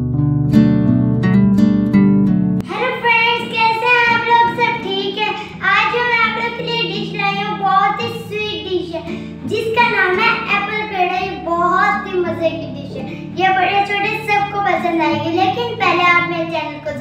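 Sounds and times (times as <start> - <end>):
acoustic guitar music: 0.0 - 17.0
girl singing: 2.6 - 17.0.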